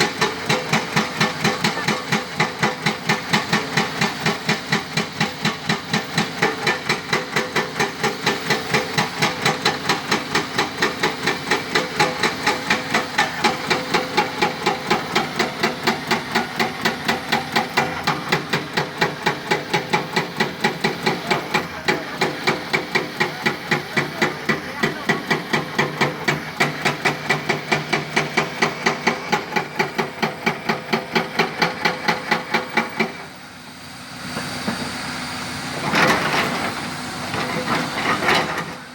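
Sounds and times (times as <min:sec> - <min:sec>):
excavator engine: 0:00.0 - 0:38.9
hydraulic rock breaker hammering stone: 0:00.0 - 0:38.9.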